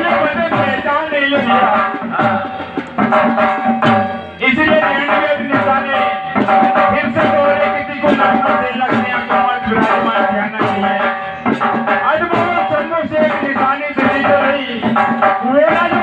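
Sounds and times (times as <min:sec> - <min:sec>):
drums beating a driving rhythm: 0:00.0 - 0:16.0
repeating folk melody: 0:00.0 - 0:16.0.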